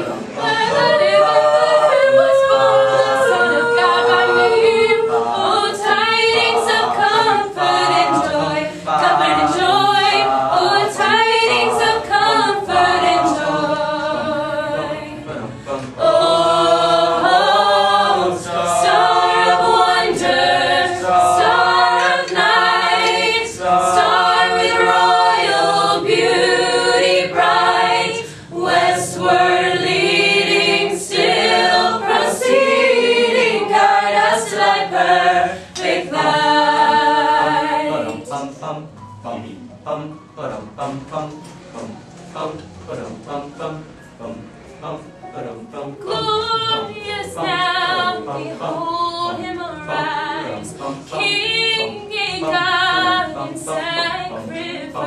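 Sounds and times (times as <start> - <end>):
choir singing a cappella: 0.0 - 55.0.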